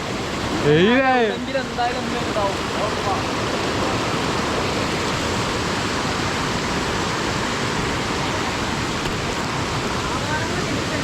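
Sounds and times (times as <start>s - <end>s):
water pouring down waterfall: 0.0s - 11.0s.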